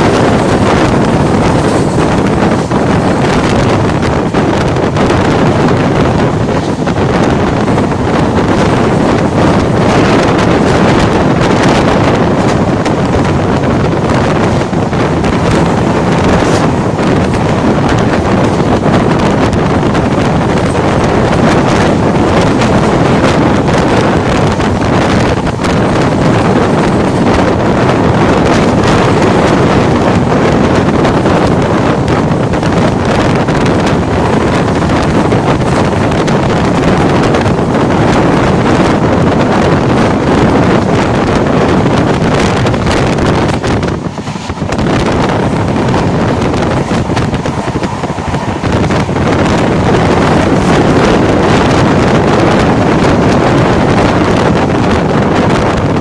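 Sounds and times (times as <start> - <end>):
train running at speed: 0.0 - 56.0
wind buffeting microphone: 0.0 - 56.0.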